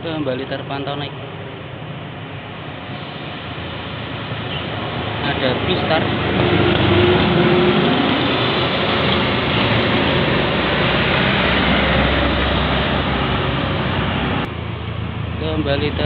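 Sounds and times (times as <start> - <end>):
bus engine rumble and tyre noise: 0.0 - 16.0.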